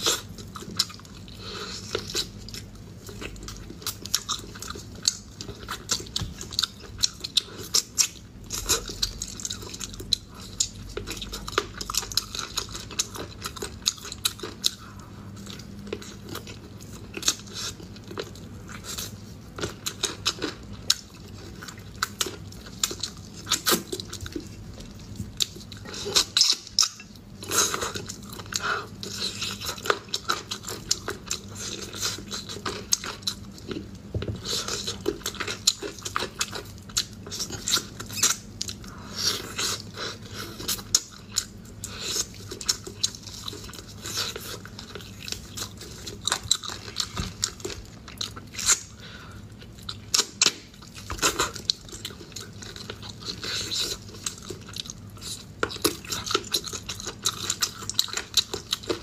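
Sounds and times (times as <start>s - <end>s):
chewing and wet mouth noises: 0.0s - 59.0s.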